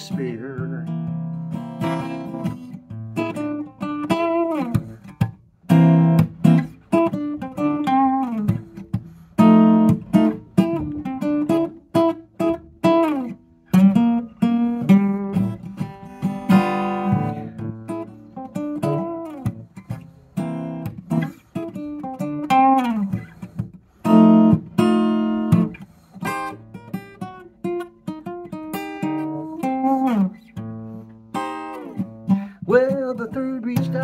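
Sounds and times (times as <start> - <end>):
acoustic guitar: 0.0 - 34.0.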